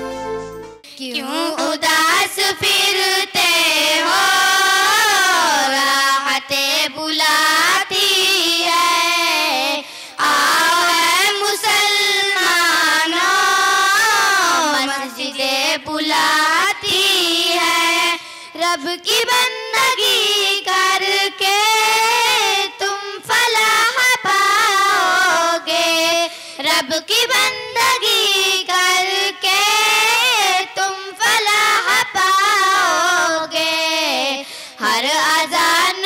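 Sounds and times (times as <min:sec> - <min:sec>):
child singing: 0:00.9 - 0:36.0.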